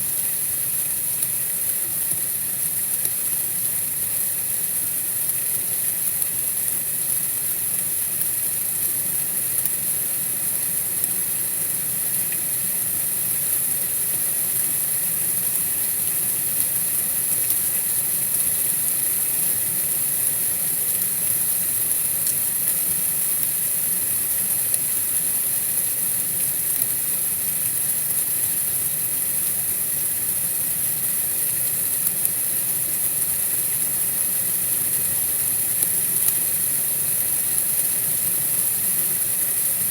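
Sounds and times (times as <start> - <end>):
outdoor night ambience hiss: 0.0 - 39.9.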